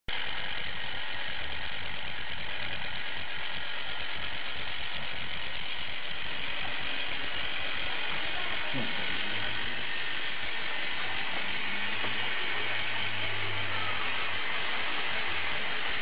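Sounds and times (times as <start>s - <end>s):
rotisserie motor running: 0.1s - 16.0s.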